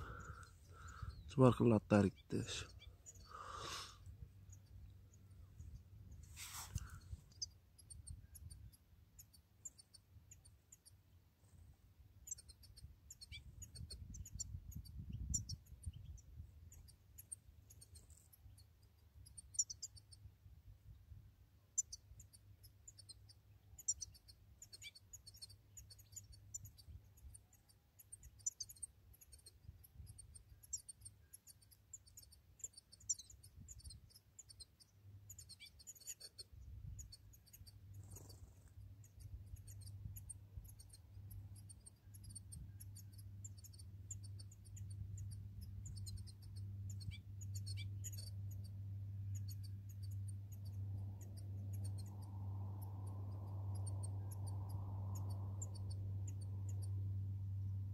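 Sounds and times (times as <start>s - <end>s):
goldfinches twittering: 0.0s - 11.0s, 12.2s - 20.3s, 21.7s - 57.9s.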